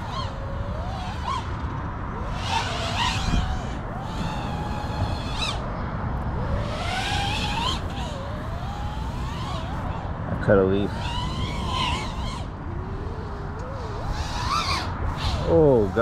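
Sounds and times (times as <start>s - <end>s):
drone motors whining: 0.0s - 16.0s
rush of wind: 0.0s - 16.0s.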